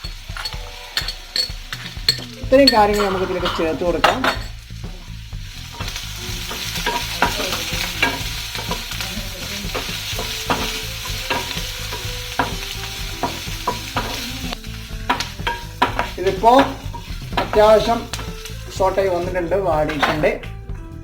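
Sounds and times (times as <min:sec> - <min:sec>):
utensil scraping a pan: 0:00.0 - 0:20.5
vegetables sizzling in hot oil: 0:00.0 - 0:20.6.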